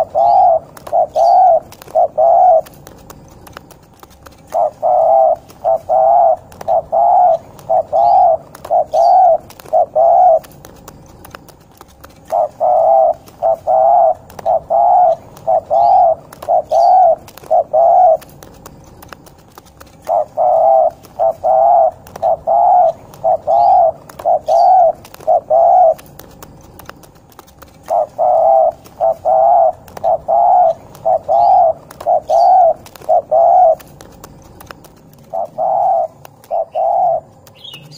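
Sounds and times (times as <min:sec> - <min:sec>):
faint bird chirps: 0:00.0 - 0:27.1, 0:27.7 - 0:37.9
dove cooing: 0:00.0 - 0:37.9.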